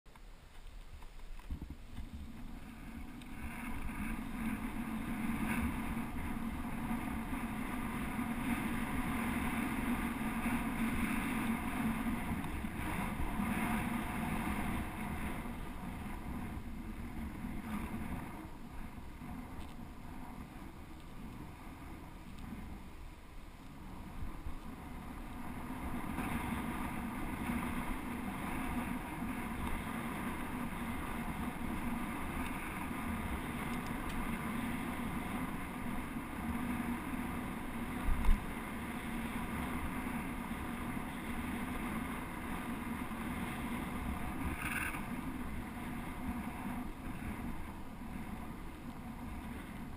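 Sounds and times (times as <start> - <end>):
bicycle tyre noise: 0.1 - 49.9
wind rushing on microphone: 0.4 - 49.9.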